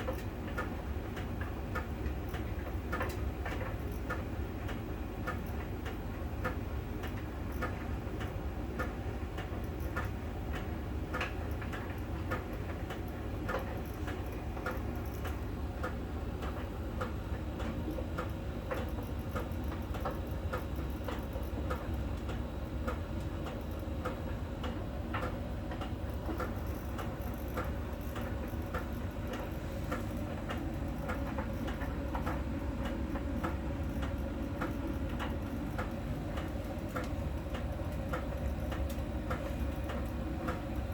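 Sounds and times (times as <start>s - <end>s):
tumble dryer drum humming: 0.0s - 40.9s
quick uneven ticking: 6.4s - 40.9s.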